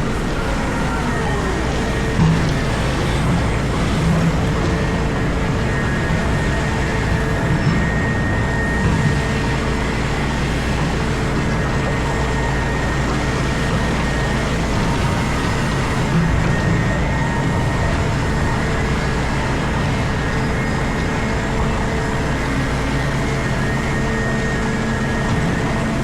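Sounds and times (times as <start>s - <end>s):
excavator engine and hydraulics drone: 0.0s - 26.0s
faint whining tones: 0.0s - 26.0s.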